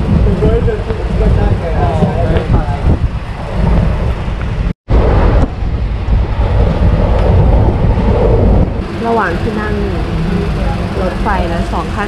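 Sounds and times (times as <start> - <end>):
train wheels rumbling on rails: 0.0 - 12.0
wind rushing through window: 0.0 - 12.0.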